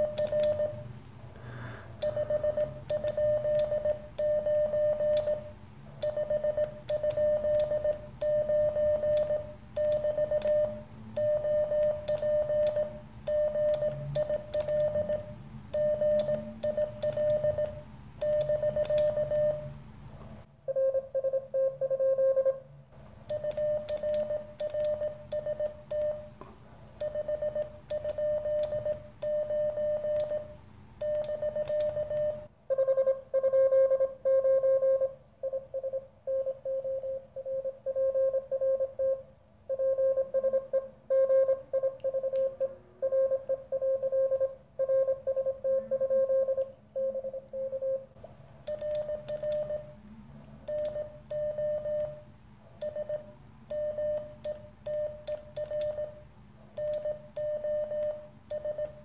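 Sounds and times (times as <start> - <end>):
morse code sidetone: 0.0 - 0.9, 2.0 - 19.7, 20.7 - 22.6, 23.3 - 26.3, 27.0 - 48.1, 48.7 - 49.9, 50.7 - 52.2, 52.8 - 56.2, 56.8 - 59.0.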